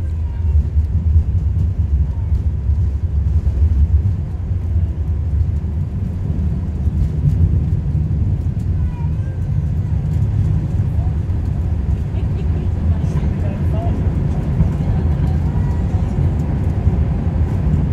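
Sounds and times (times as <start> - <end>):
airplane cabin engine rumble: 0.0 - 17.9.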